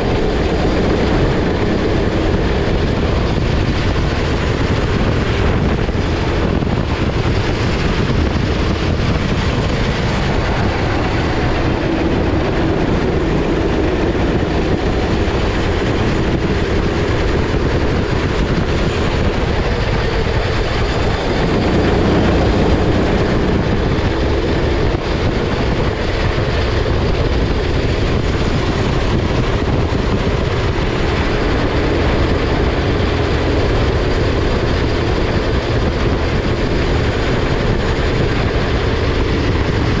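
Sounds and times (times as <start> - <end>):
kart engine running hard: 0.0 - 40.0
wind noise: 0.0 - 40.0.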